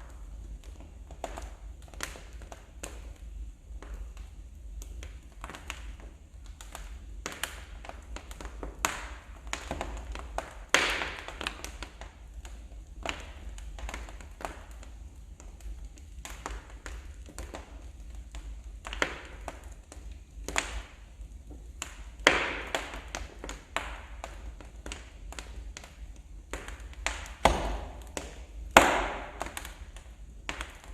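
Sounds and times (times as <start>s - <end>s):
fire popping: 0.0s - 30.9s
wood fire crackling: 0.0s - 30.9s.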